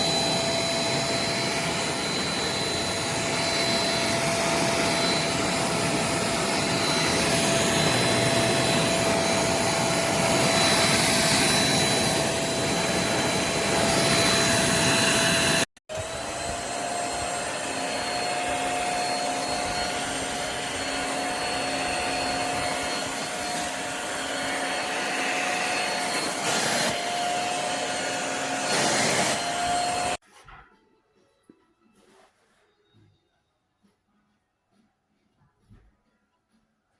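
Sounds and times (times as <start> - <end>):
vacuum cleaner motor whining: 0.0 - 30.2.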